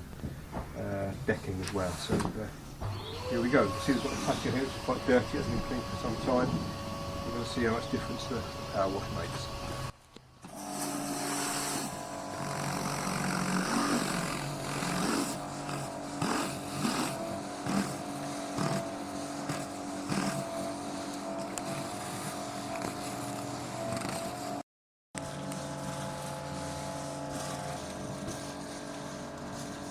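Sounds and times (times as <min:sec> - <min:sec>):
pressure washer engine: 0:02.8 - 0:09.9, 0:10.5 - 0:24.6, 0:25.2 - 0:29.9.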